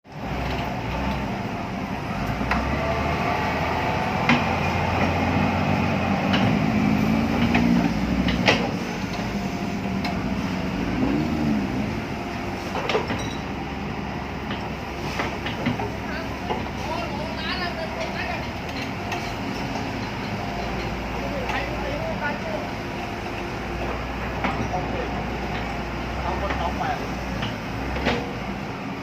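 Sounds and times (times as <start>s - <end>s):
excavator diesel engine droning: 0.1s - 29.0s
hydraulics whining: 0.1s - 29.0s.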